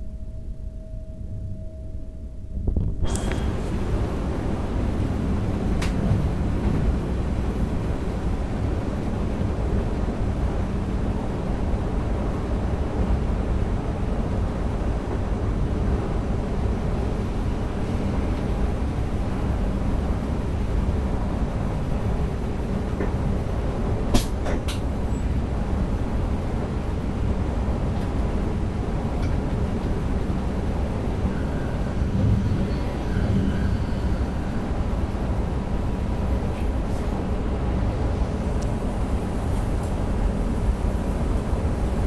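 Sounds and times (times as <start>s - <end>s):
train running rumble: 0.0s - 42.0s.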